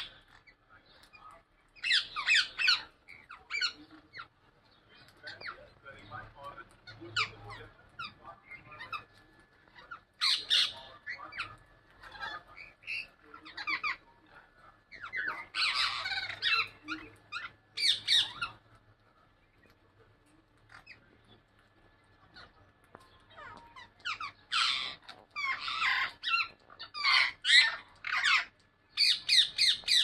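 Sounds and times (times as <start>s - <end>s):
parrots squawking: 0.0s - 18.8s, 20.6s - 30.0s.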